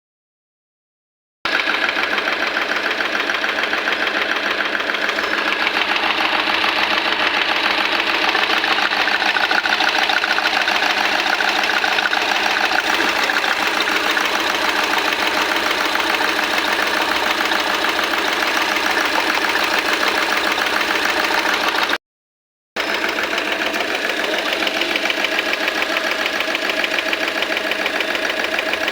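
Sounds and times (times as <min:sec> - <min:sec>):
engine idling with clatter: 0:01.5 - 0:22.0, 0:22.8 - 0:28.9.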